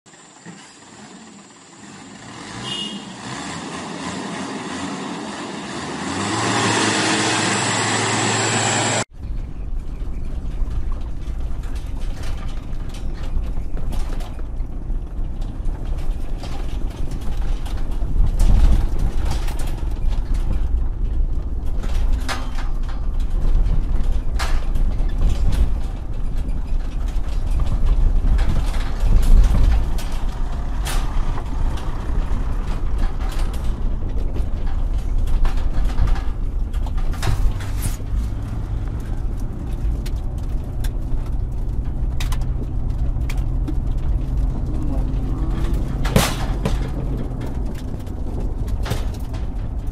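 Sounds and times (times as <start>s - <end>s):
vehicles rumbling on dirt road: 0.1s - 49.9s
knocks and clatter: 8.9s - 49.9s.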